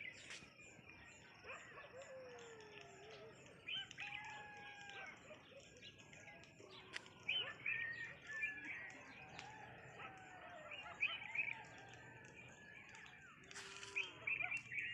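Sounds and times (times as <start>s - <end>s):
birds chirping and whistling: 0.0s - 14.9s.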